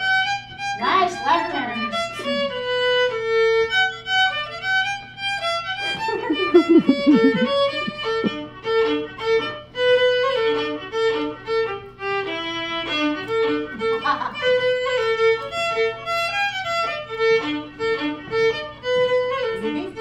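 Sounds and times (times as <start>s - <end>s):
solo fiddle tune: 0.0s - 20.0s.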